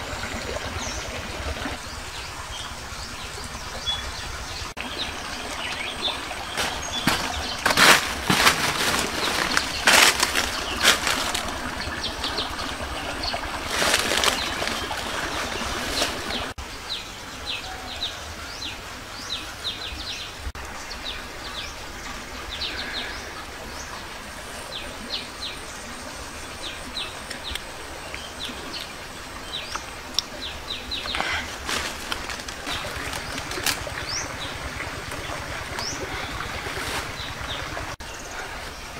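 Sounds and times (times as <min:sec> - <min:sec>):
birds chirping: 0:00.0 - 0:24.0, 0:26.6 - 0:38.9.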